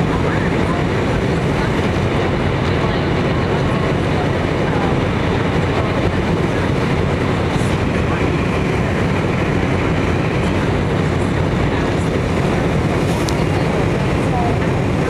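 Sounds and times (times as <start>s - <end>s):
airflow over the wing: 0.0s - 15.0s
jet engines humming: 0.0s - 15.0s.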